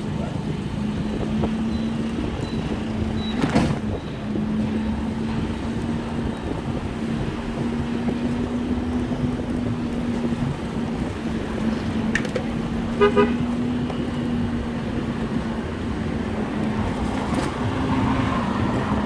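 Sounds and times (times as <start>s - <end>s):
engine hum: 0.0s - 19.0s
street traffic: 0.0s - 19.0s
wind on microphone: 0.5s - 19.0s.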